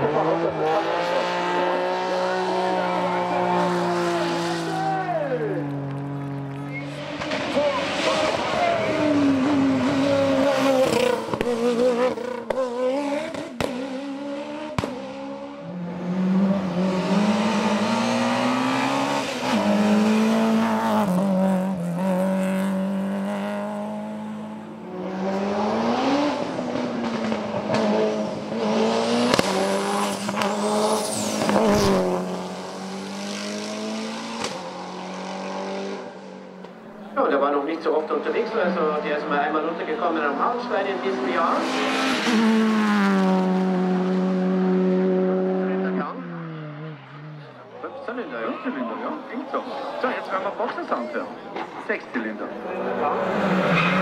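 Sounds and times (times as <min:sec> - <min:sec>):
race car engine revving: 0:00.0 - 0:47.9, 0:49.0 - 0:54.0.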